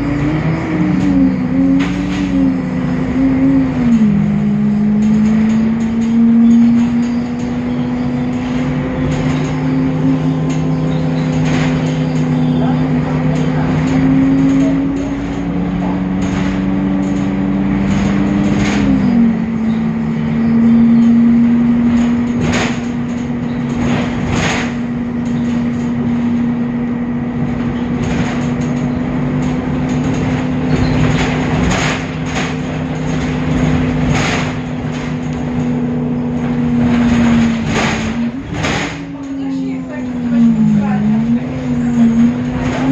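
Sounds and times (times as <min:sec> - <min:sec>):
bus diesel engine droning: 0:00.0 - 0:42.9
sharp knocks and rattles: 0:00.2 - 0:42.9.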